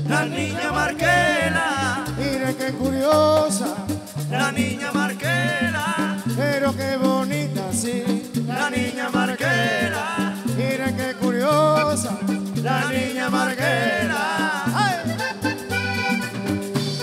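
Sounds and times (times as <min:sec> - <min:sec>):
accordion melody: 0:00.0 - 0:17.0
bass line: 0:00.0 - 0:17.0
percussion: 0:00.0 - 0:17.0.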